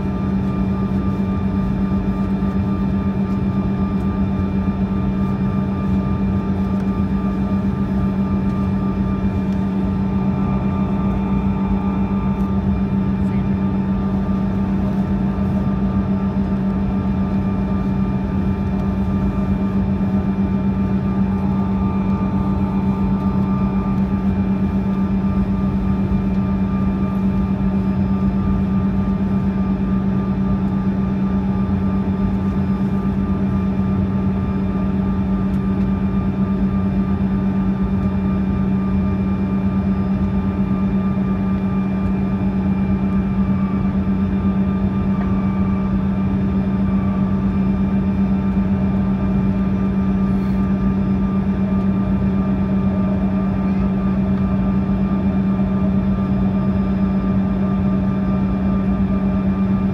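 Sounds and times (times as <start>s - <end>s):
aircraft cabin hum: 0.0s - 59.9s
faint steady whines: 0.0s - 59.9s.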